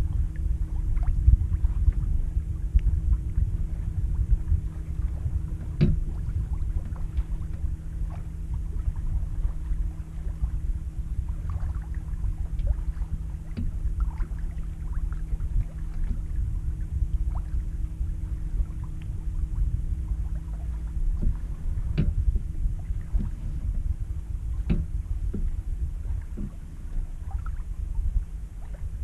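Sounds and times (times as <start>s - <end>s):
steady low hum: 0.0s - 29.0s
water running along hull: 0.0s - 29.0s
wind buffeting microphone: 0.0s - 29.0s
light knocks and splashes: 2.7s - 10.6s, 11.2s - 27.8s.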